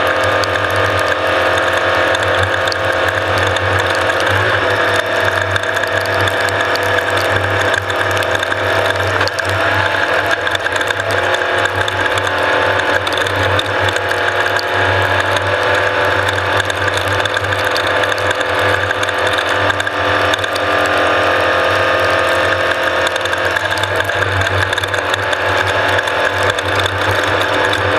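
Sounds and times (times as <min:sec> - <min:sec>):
rattle: 0:00.0 - 0:21.0, 0:22.0 - 0:27.9
race vehicle mechanical whine: 0:00.0 - 0:27.9.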